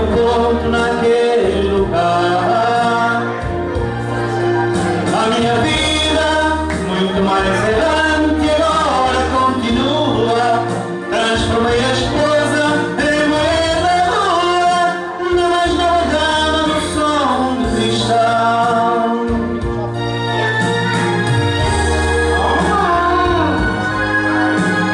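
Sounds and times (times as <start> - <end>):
song with singing and bass: 0.0 - 24.9.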